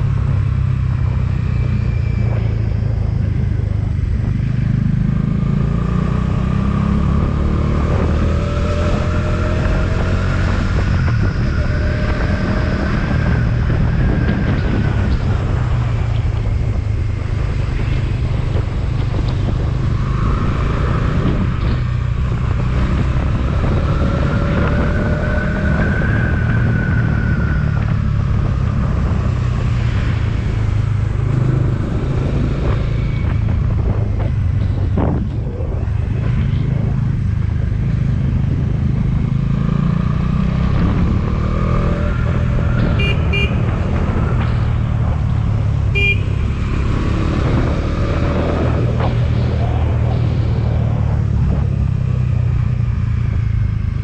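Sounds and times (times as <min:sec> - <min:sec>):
engine whine: 0:00.0 - 0:54.0
motorcycle engine rumble: 0:00.0 - 0:54.0.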